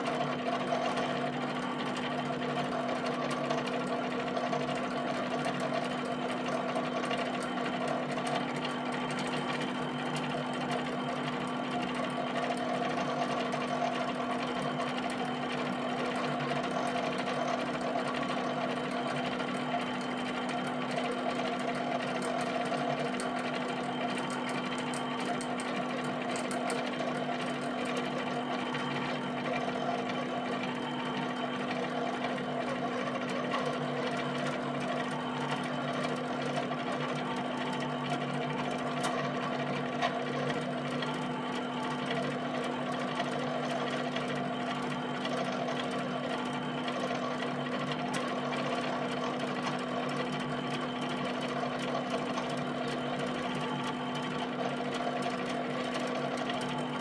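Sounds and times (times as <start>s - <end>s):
pen plotter motors whirring: 0.0s - 57.0s.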